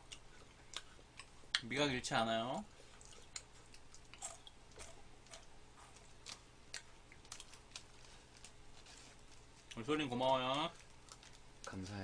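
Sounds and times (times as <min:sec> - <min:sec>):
crisps being chewed: 0:00.0 - 0:01.6, 0:02.8 - 0:12.0.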